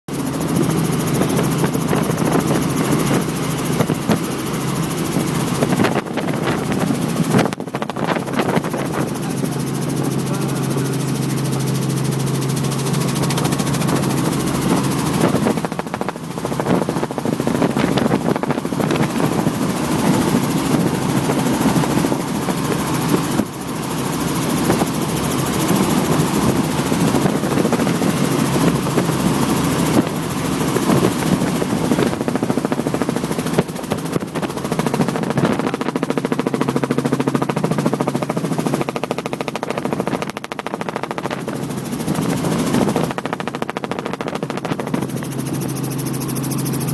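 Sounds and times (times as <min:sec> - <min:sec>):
helicopter engine and rotor chop: 0:00.1 - 0:46.9.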